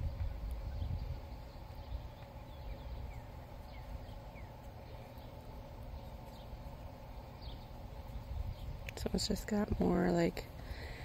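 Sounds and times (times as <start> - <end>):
birds chirping: 0.0 - 11.0
faint steady hum: 0.0 - 11.0.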